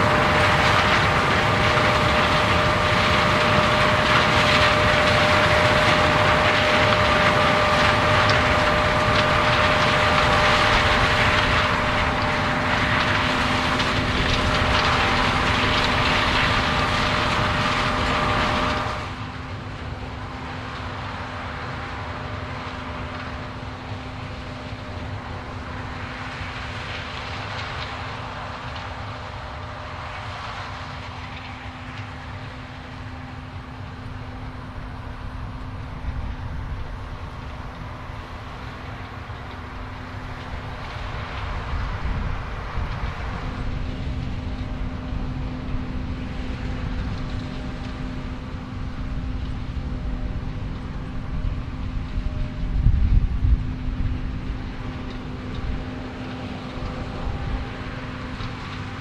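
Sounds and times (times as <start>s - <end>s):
harvest machinery droning: 0.0s - 59.0s.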